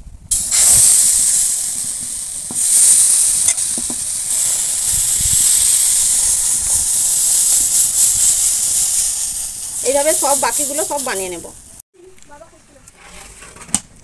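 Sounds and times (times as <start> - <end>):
batter sizzling on a hot pan: 0.3 - 11.8.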